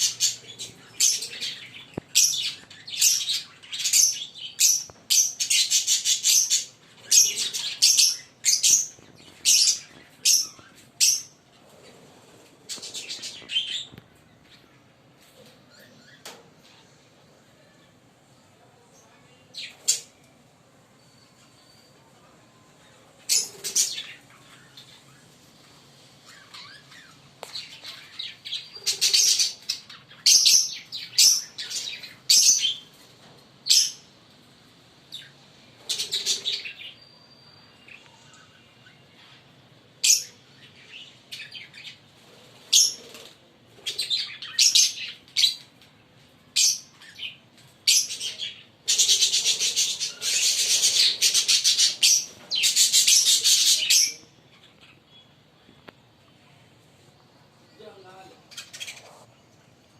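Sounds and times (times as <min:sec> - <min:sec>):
lovebirds chirping: 0:00.0 - 0:17.8, 0:22.8 - 0:34.1, 0:35.1 - 0:56.6.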